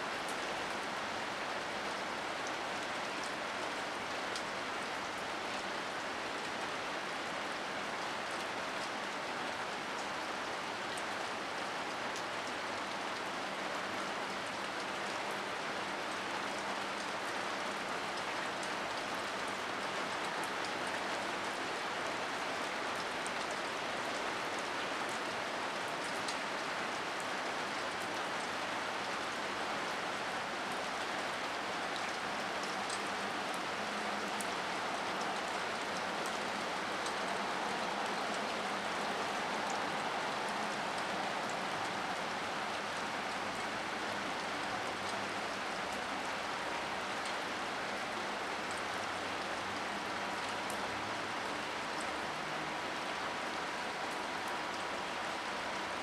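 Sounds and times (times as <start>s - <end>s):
rain on wet concrete: 0.0s - 56.0s.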